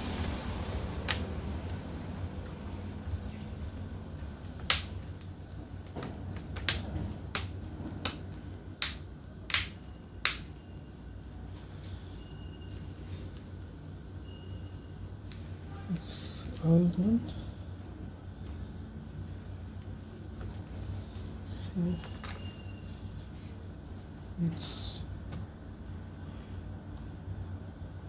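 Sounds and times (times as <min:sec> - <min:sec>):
steady low background noise: 0:00.0 - 0:28.0.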